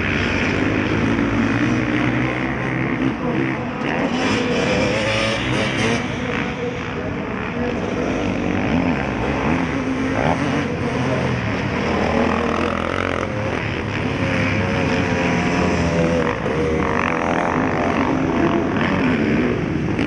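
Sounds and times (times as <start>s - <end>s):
motocross bikes revving: 0.0s - 20.0s.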